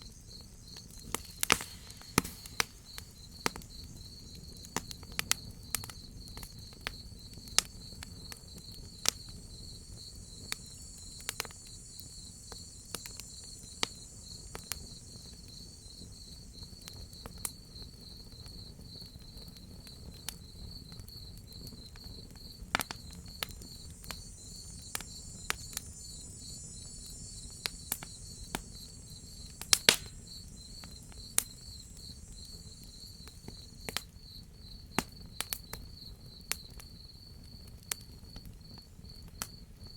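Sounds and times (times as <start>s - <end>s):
crickets chirping: 0.0s - 39.9s
wood fire popping and crackling: 0.1s - 16.1s, 16.8s - 36.8s.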